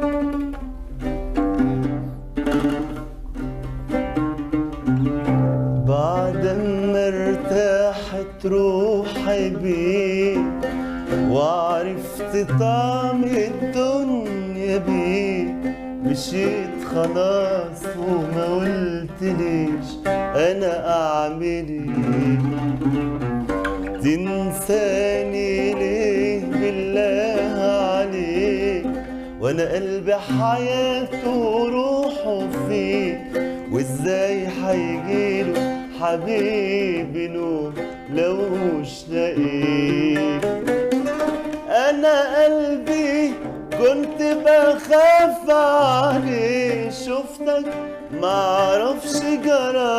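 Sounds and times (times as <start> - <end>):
oud plucked: 0.0 - 49.9
man singing: 5.6 - 49.9.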